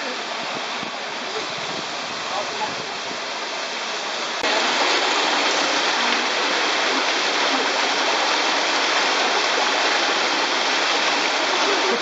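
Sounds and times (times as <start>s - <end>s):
rushing water hiss: 0.0s - 12.0s.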